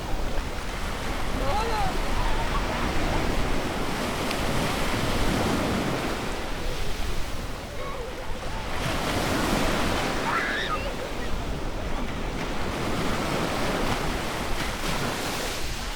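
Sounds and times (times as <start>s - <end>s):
ocean surf on a beach: 0.0s - 15.9s.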